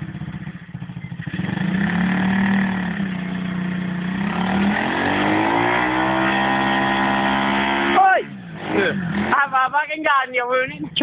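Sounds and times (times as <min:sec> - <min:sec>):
pit bike engine revving: 0:00.0 - 0:10.0.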